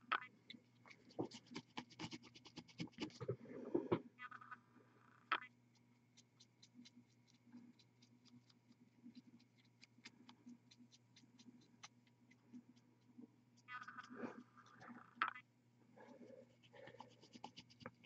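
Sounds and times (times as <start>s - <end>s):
paintbrush ticks and scratches: 0.0s - 3.4s, 5.3s - 15.4s, 16.0s - 18.0s
low steady hum: 0.0s - 18.0s.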